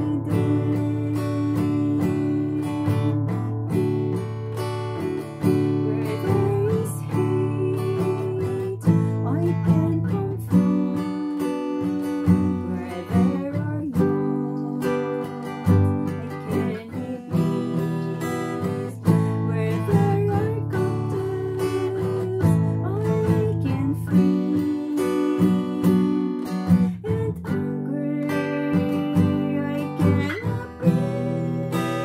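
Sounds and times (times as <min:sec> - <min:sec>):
woman singing: 0:00.0 - 0:04.4, 0:05.0 - 0:32.0
strummed acoustic guitar: 0:00.0 - 0:32.0.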